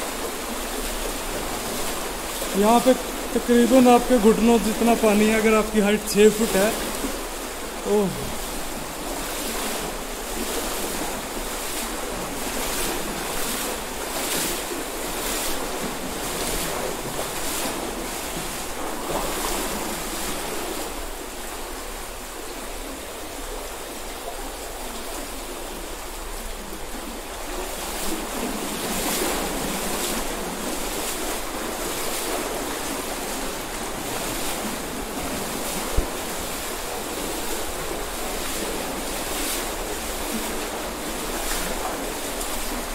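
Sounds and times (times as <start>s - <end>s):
splashes of wading: 0.0s - 42.9s
stream water rushing: 0.0s - 42.9s.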